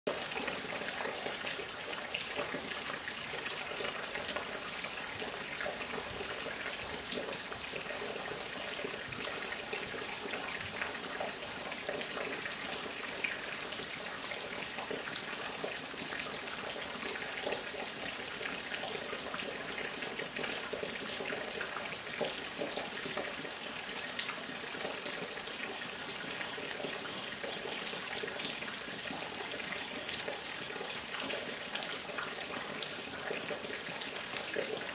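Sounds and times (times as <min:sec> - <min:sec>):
water dripping from roof: 0:00.1 - 0:34.9.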